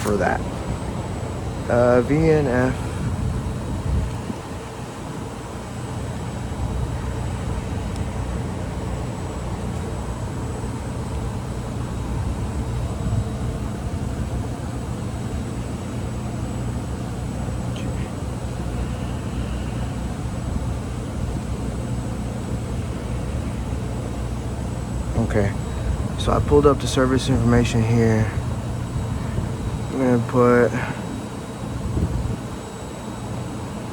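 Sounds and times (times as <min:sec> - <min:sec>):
faint high-pitched whine: 0:00.0 - 0:33.9
low mechanical hum: 0:00.0 - 0:33.9.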